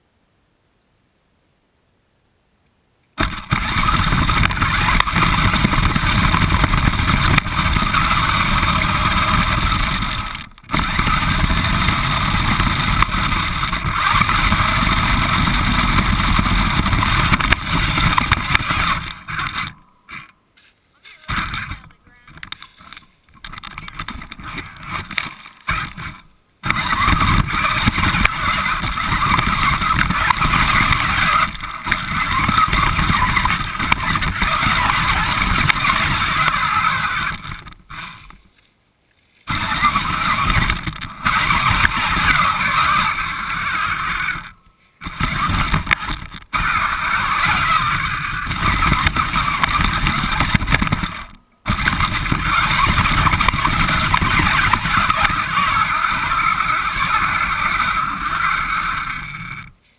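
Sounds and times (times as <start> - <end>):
toy car motor and wheels rushing: 3.2 - 20.4, 21.0 - 38.6, 39.4 - 59.9.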